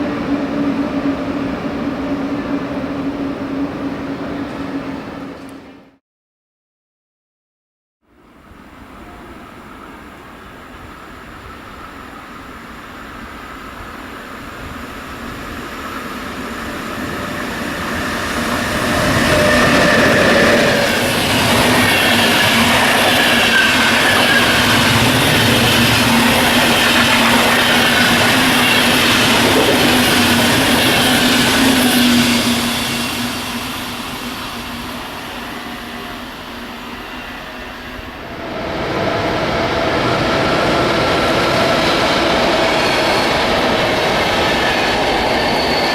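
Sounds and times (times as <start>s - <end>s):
train passing on rails: 0.0s - 6.0s, 8.1s - 45.9s
train wheel squeal: 8.9s - 45.9s.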